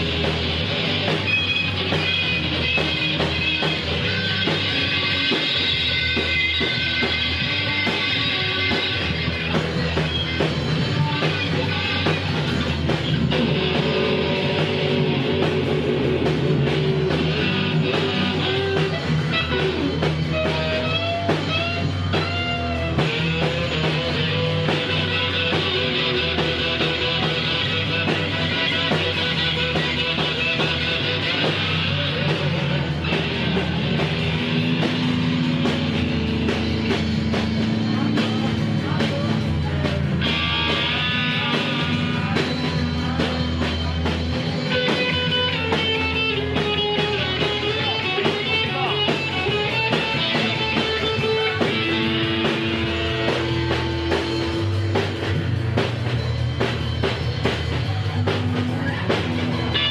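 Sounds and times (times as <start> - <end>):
electric guitar sliding bending notes: 0.0 - 59.9
steady low bass: 0.0 - 59.9.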